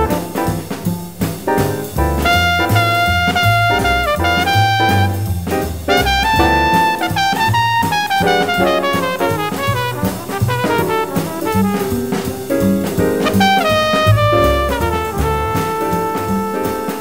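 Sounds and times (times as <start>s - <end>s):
brass instruments playing jazz: 0.0s - 17.0s
drum kit: 0.0s - 17.0s.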